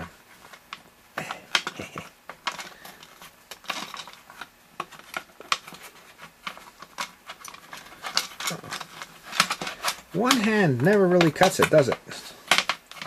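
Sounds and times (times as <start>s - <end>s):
plastic case clicks and scrapes: 0.0s - 13.0s.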